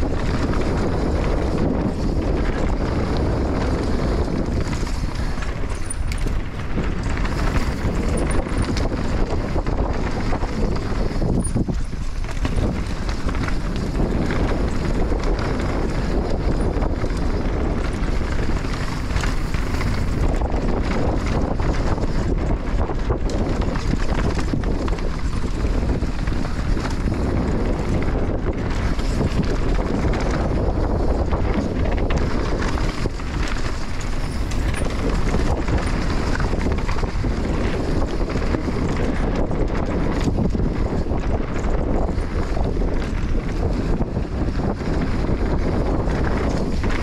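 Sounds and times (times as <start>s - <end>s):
dirt bike engine running: 0.0s - 47.0s
wind noise on microphone: 0.0s - 47.0s.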